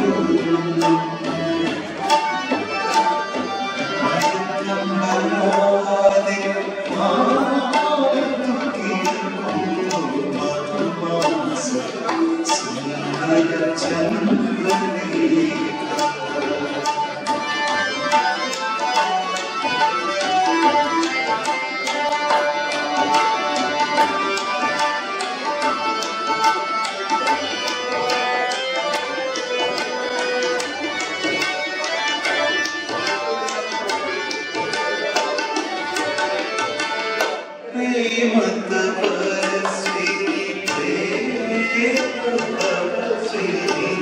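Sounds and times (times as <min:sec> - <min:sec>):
held melody: 0:00.0 - 0:44.0
tabla playing fast rhythm: 0:00.0 - 0:44.0.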